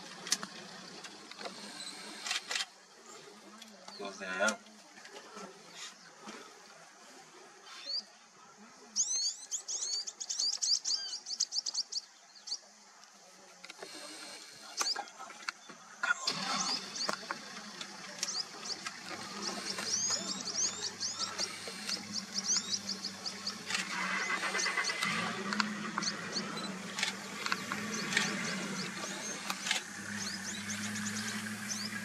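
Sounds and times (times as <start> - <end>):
birds chirping: 0.0 - 6.9, 7.6 - 32.0.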